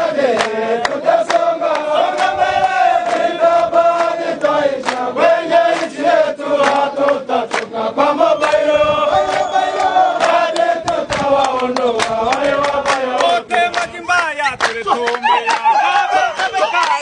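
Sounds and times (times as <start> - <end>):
group chanting in unison: 0.0 - 13.7
rhythmic handclaps: 0.0 - 17.0.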